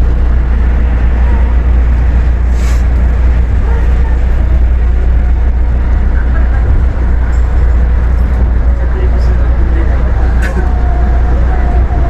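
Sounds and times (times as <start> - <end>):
monorail train rumbling: 0.0 - 12.0.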